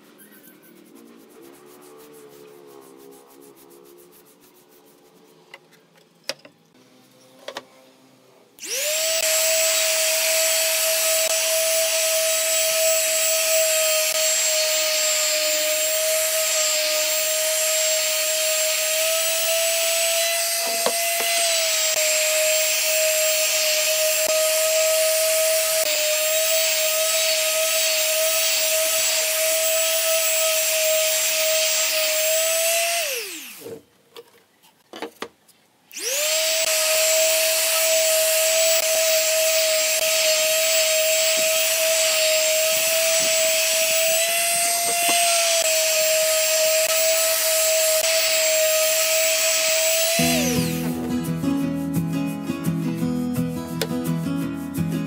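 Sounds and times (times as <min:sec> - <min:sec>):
palm sander whining: 0:00.4 - 0:05.6, 0:08.6 - 0:33.8, 0:35.9 - 0:52.8.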